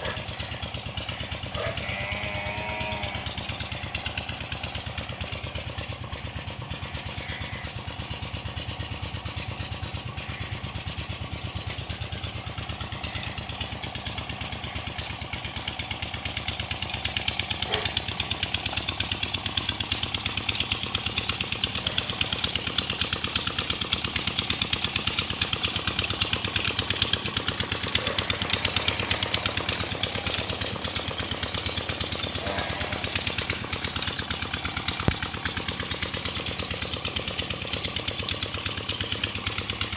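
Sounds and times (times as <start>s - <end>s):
small engine running with pulsing rattle: 0.0s - 39.9s.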